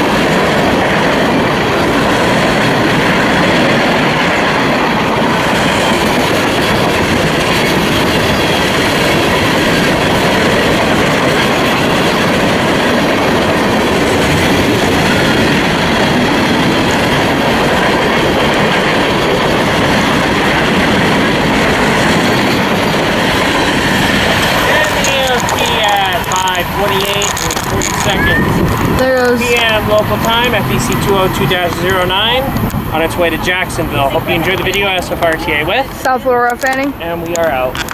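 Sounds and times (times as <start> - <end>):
freight train wheels rumbling on rails: 0.0 - 37.9.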